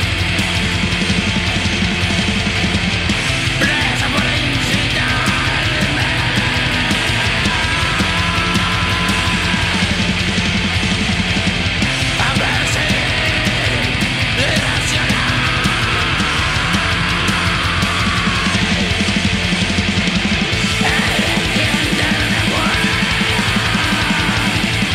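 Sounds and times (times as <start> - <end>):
distorted guitars: 0.0 - 24.9
fast drumming: 0.0 - 24.9.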